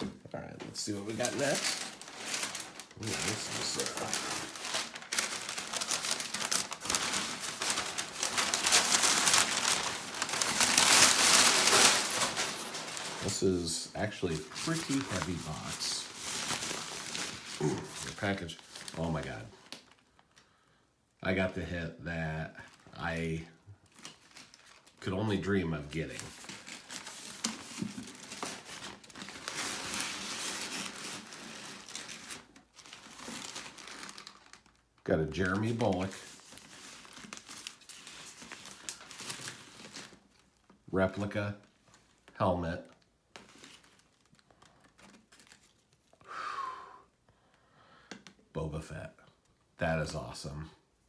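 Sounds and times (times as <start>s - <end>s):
sharp paper crackles: 0.0s - 20.3s, 23.9s - 46.2s
packing paper crinkling: 0.0s - 20.4s, 23.8s - 46.2s.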